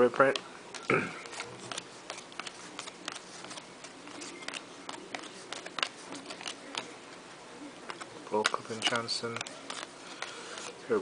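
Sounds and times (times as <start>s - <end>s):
trading cards flipping: 0.2s - 7.2s, 7.8s - 11.0s.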